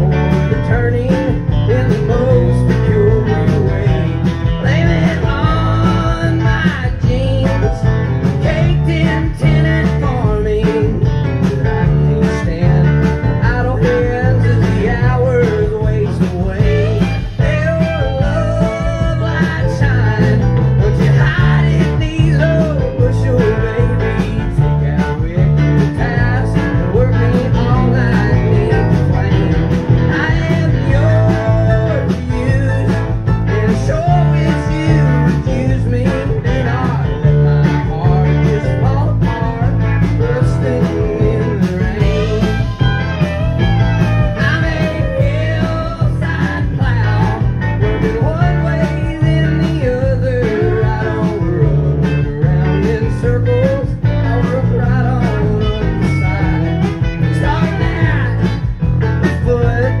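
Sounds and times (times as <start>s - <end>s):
country-rock band playing: 0.0s - 60.0s.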